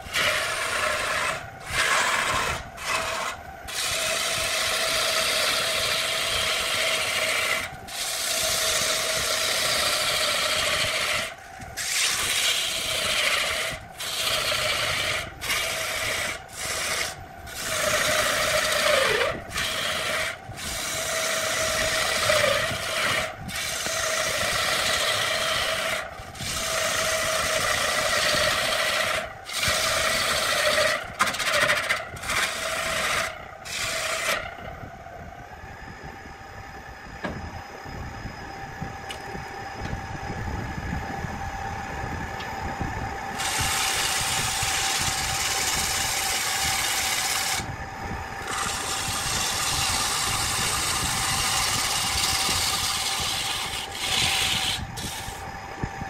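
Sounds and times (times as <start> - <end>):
lathe tool cutting wood: 0.0 - 34.6, 43.2 - 56.0
lathe hum: 0.0 - 56.0.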